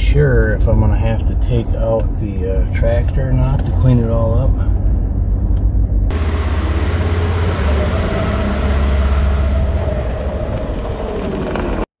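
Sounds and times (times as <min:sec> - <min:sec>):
engine running with low rumble: 0:00.0 - 0:11.9.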